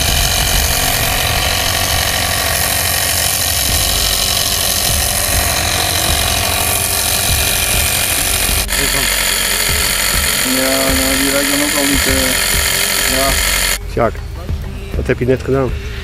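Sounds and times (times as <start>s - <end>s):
low hum: 0.0s - 14.7s
steady mechanical drone: 0.0s - 16.0s.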